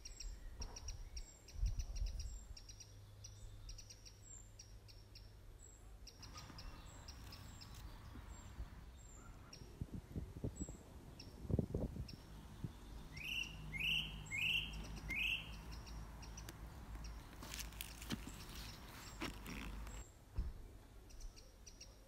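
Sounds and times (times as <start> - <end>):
small bird chirping: 0.0 - 20.1.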